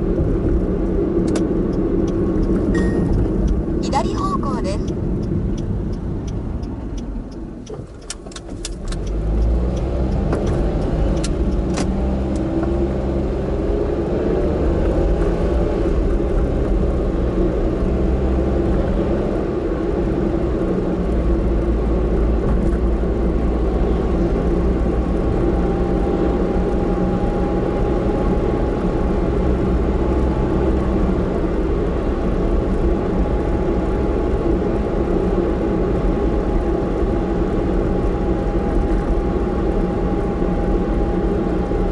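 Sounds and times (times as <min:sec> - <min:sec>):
car engine accelerating: 0:00.0 - 0:41.9
road noise: 0:00.0 - 0:41.9.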